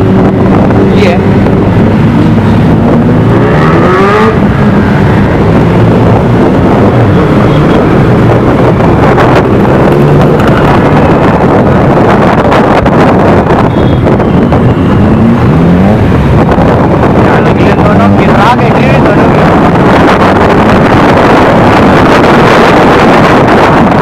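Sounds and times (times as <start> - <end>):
motorcycle engine revving: 0.0 - 24.0
motorcycle engines running: 0.0 - 24.0.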